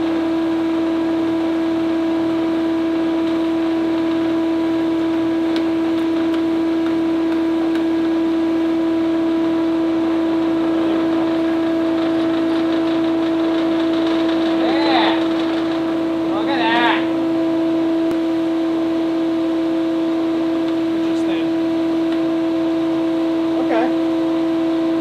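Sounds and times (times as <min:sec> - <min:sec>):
thickness planer humming: 0:00.0 - 0:25.0.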